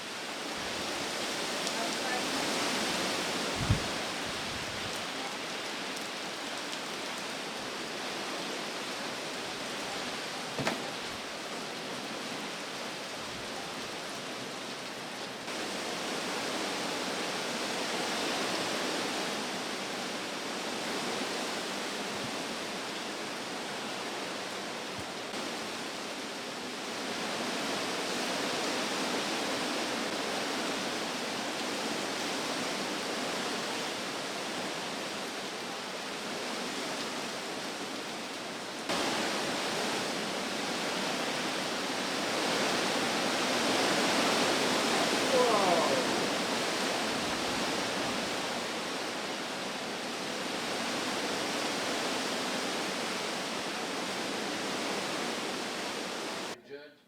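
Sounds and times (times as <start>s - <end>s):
hurricane wind and rain: 0.0s - 56.6s.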